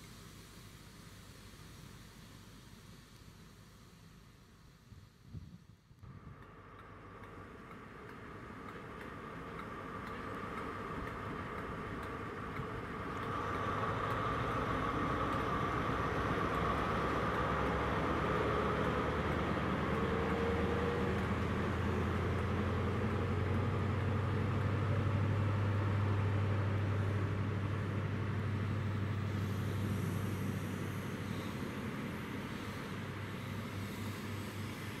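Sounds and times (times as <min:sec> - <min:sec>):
diesel engine whine and drone: 0:00.0 - 0:35.0
train coaches rolling: 0:06.1 - 0:35.0.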